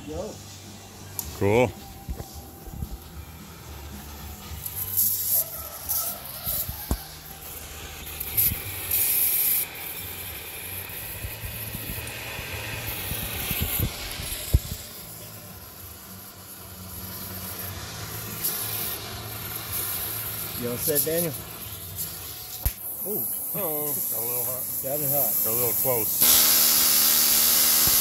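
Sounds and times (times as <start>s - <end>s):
torch flame hissing: 0.2s - 28.0s.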